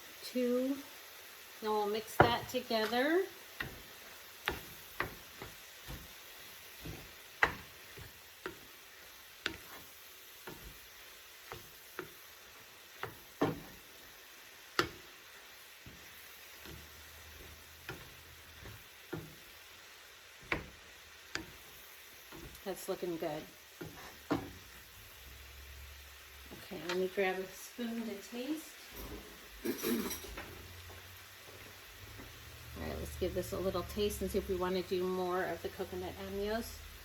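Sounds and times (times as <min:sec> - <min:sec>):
rice sizzling in a frying pan: 0:00.0 - 0:37.0.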